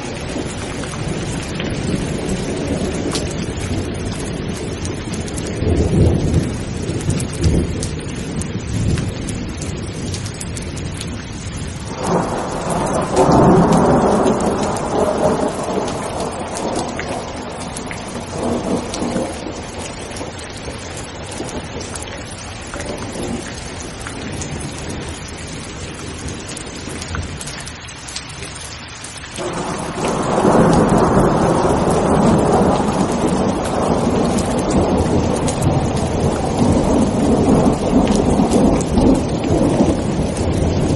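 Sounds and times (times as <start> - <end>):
rolling thunder: 0.0 - 27.5, 29.4 - 40.9
heavy rain: 0.0 - 40.9.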